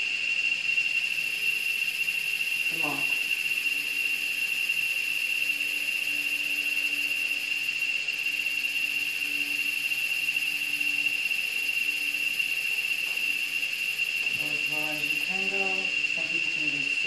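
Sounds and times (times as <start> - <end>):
high-pitched whistle tone: 0.0 - 17.0
constant hiss: 1.4 - 17.0.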